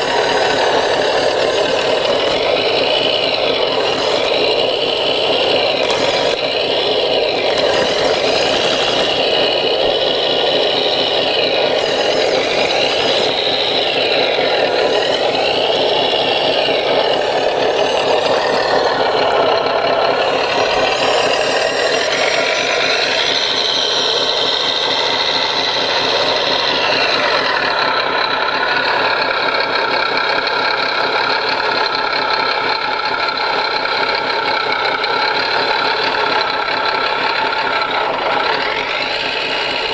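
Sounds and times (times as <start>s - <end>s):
electric drive and gears whining: 0.0s - 39.9s
rattling diesel engine sound: 0.0s - 39.9s.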